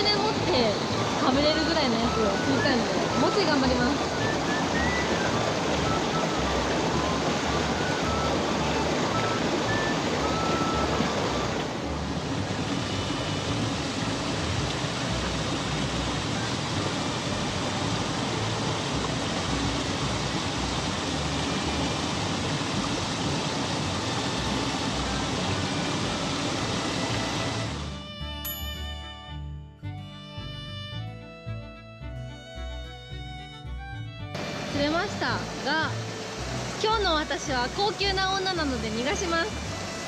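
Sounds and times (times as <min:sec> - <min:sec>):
stream rushing over rocks: 0:00.0 - 0:27.9, 0:34.4 - 0:40.0.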